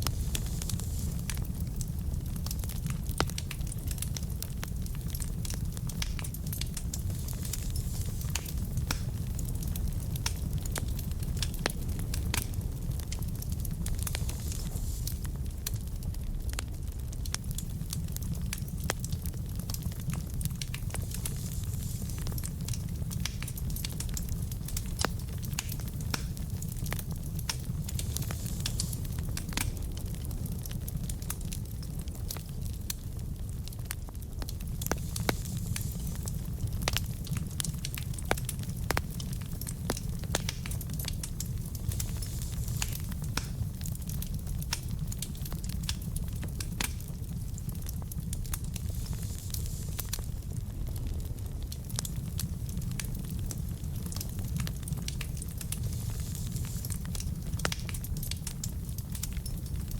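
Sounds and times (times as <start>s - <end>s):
fire rumbling: 0.0s - 59.9s
logs crackling and popping: 0.0s - 59.9s.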